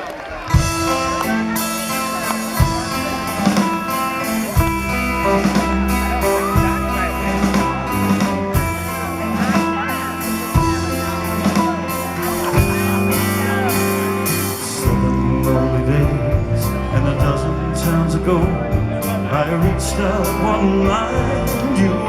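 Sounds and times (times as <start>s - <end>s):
live band playing slow song: 0.0s - 22.0s.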